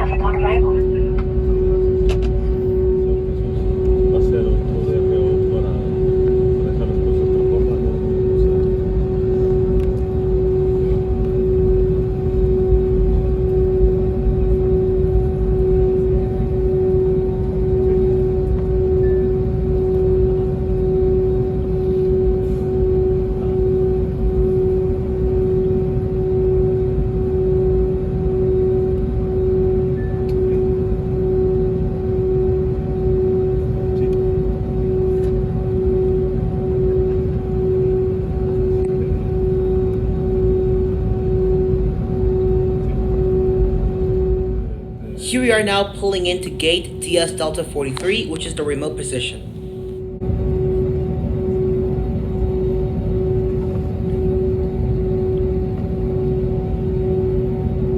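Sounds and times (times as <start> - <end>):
jet engines idling drone: 0.0 - 16.8, 21.5 - 57.9.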